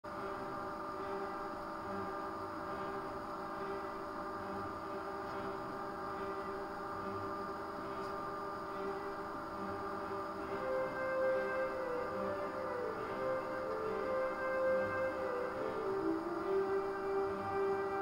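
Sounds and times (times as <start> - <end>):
laser cutter machine hum: 0.1 - 18.0
light hiss: 0.2 - 18.0.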